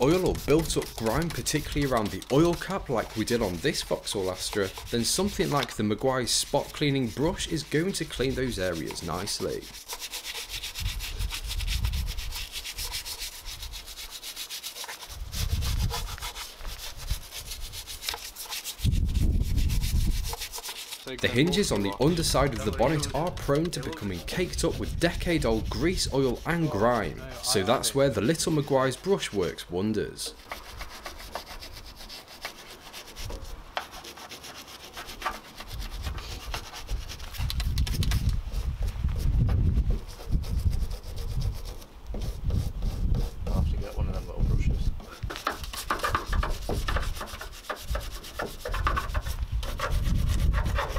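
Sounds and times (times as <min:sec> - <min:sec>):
stiff brush scrubbing: 0:00.0 - 0:50.9.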